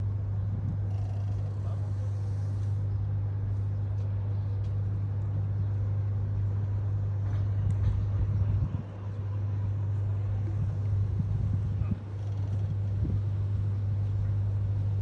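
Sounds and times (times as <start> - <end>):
boat engines humming: 0.0 - 15.0.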